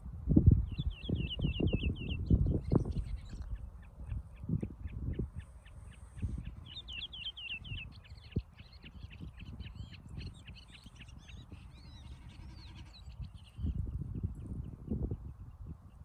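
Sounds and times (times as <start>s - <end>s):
small birds chirping: 0.6s - 16.0s.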